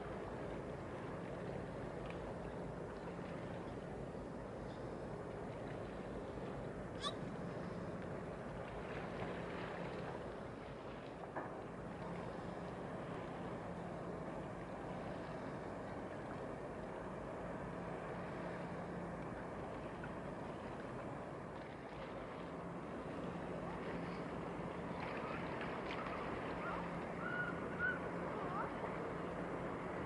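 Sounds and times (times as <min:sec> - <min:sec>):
faint low ship engine hum: 0:00.0 - 0:30.0
water lapping: 0:00.0 - 0:30.0
wind: 0:00.0 - 0:30.0.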